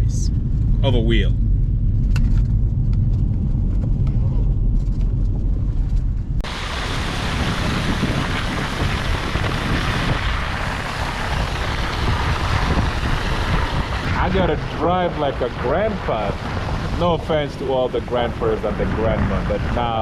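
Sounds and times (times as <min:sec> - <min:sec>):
road rumble inside car: 0:00.0 - 0:20.0
wind on microphone: 0:00.0 - 0:20.0.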